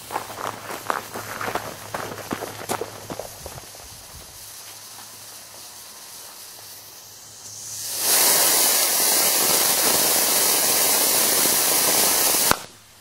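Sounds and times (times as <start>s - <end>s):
rocket motor exhaust hiss: 0.0s - 13.0s.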